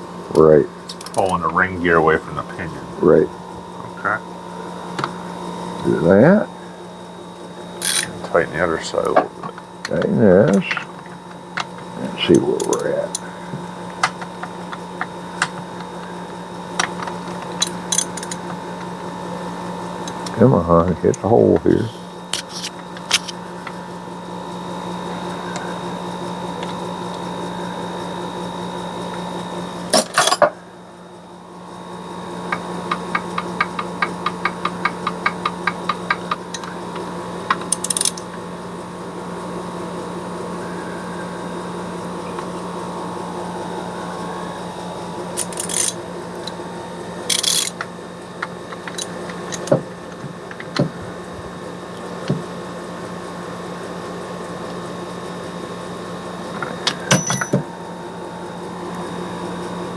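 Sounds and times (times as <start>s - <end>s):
steady background hum: 0.0s - 59.9s.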